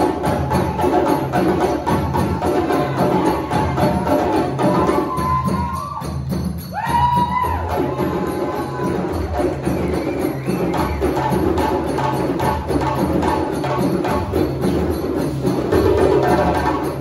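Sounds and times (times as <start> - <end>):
djembe drums playing: 0.0 - 17.0.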